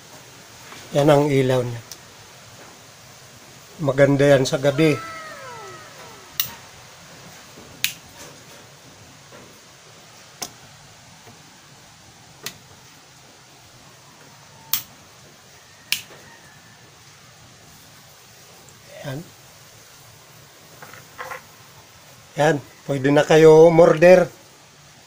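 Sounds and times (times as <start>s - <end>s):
faint room noise: 0.0s - 25.0s.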